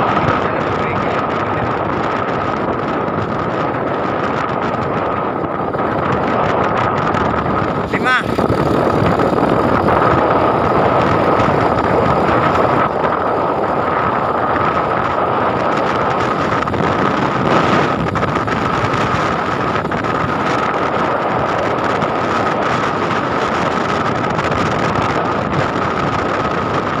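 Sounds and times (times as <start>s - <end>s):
motorcycle engine with high whine: 0.0s - 27.0s
wind rushing over microphone: 0.0s - 27.0s.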